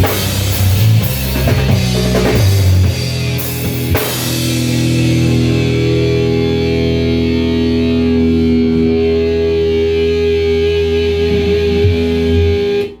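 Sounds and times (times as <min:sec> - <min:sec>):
distorted electric guitar chord: 0:00.0 - 0:13.0.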